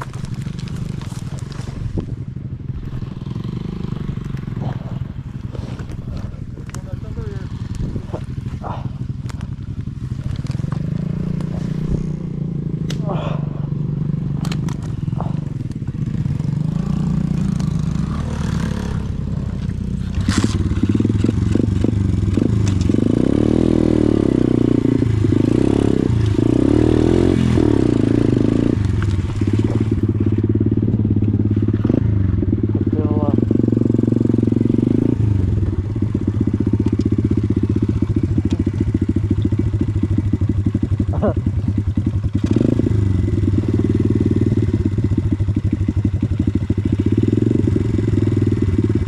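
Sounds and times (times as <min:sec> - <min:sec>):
pit bike engine revving: 0:00.0 - 0:49.0.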